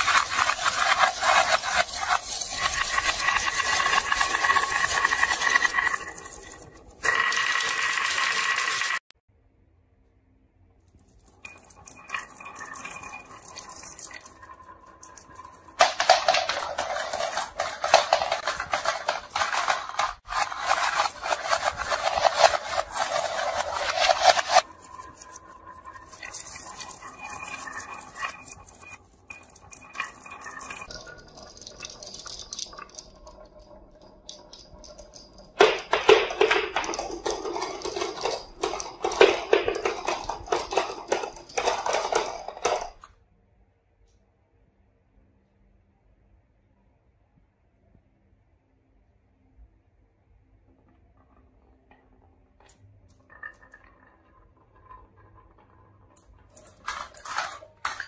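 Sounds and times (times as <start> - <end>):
marbles clattering down wooden track: 0.0 - 9.0, 10.9 - 43.1, 51.1 - 58.0.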